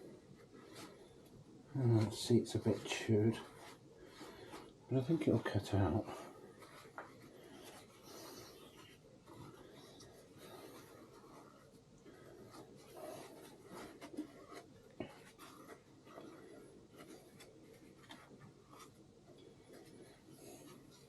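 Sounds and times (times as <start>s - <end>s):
faint scratching and rubbing: 0.0s - 21.0s.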